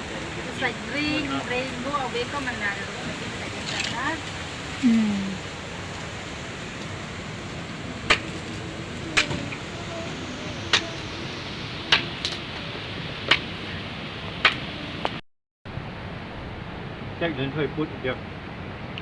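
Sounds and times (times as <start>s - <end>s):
rushing water and rain: 0.0s - 19.0s.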